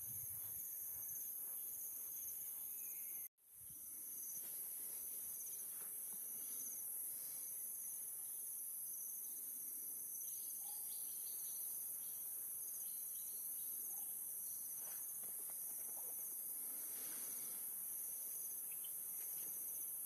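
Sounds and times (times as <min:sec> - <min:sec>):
insects chorus with trill: 0:00.0 - 0:20.0.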